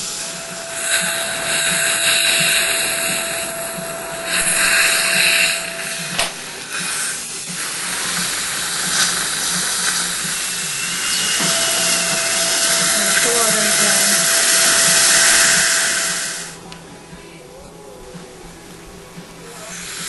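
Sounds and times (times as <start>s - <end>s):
drill click: 0.0s - 16.9s
surgical suction hiss: 0.0s - 17.2s, 18.2s - 20.0s
dental drill whining: 0.0s - 20.0s.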